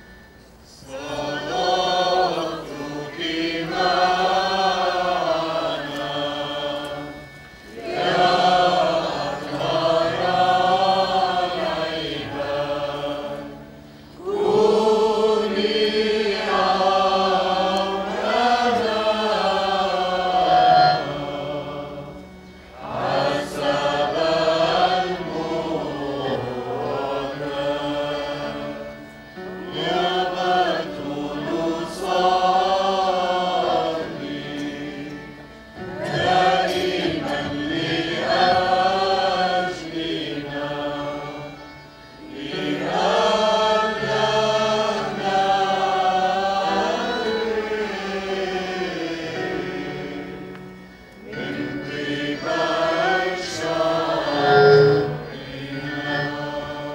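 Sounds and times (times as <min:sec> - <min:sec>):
choir chanting a hymn: 0:00.0 - 0:56.9.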